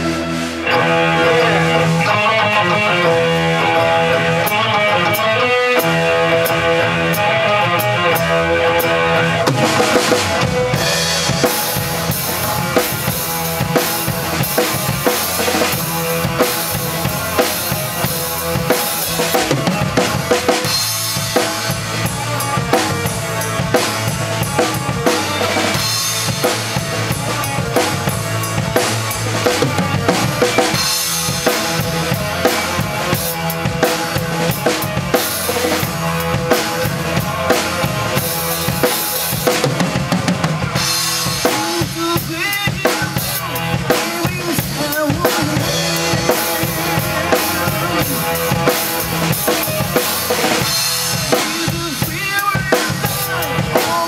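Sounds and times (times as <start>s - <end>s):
drum kit playing: 0.0s - 54.0s
recorded rock song: 0.0s - 54.0s.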